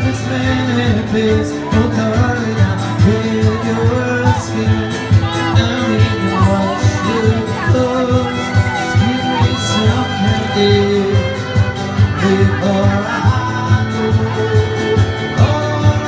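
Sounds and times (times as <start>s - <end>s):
fiddle playing: 0.0s - 16.0s
strummed acoustic guitar: 0.0s - 16.0s.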